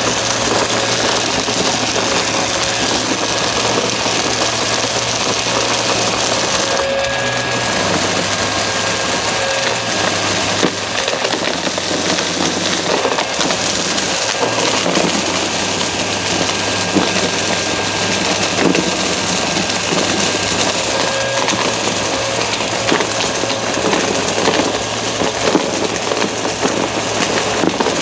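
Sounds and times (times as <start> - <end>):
debris crackling in vacuum: 0.0 - 28.0
vacuum cleaner running: 0.0 - 28.0.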